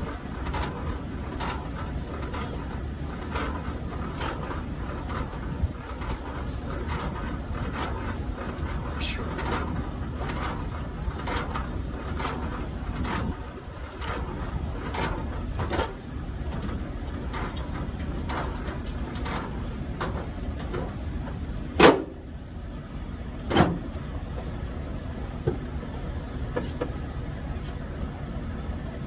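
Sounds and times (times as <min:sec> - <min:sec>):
low vehicle rumble: 0:00.0 - 0:29.0.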